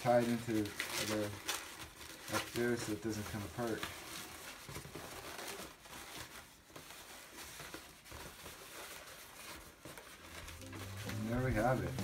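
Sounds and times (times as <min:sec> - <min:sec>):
balloons rubbing and twisting: 0:00.0 - 0:12.0.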